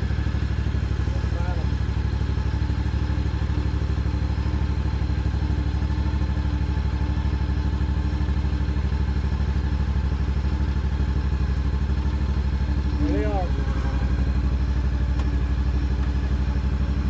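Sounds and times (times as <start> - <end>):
mower engine running: 0.0 - 17.0.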